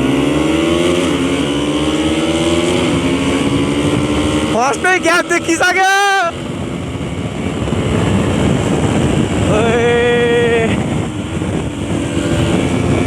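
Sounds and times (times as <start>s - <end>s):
motorcycle engine accelerating: 0.0s - 13.0s
wind noise on microphone: 0.0s - 13.0s.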